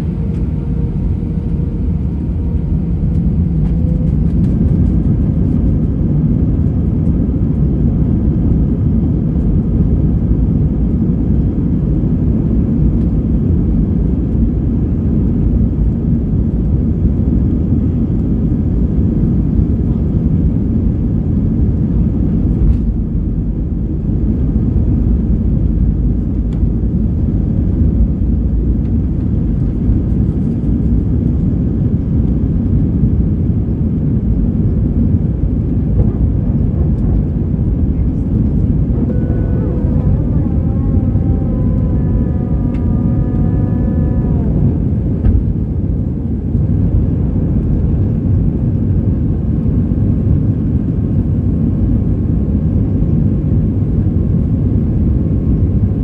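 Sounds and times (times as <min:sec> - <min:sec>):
airliner cabin engine noise: 0:00.0 - 0:56.0.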